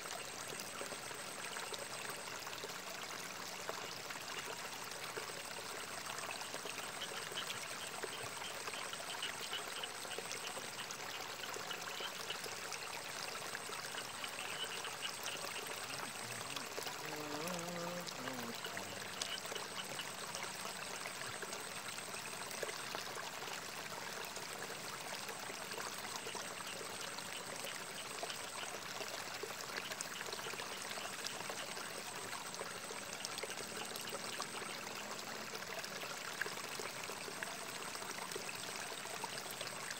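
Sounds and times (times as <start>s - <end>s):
water trickling in a ditch: 0.0s - 39.9s.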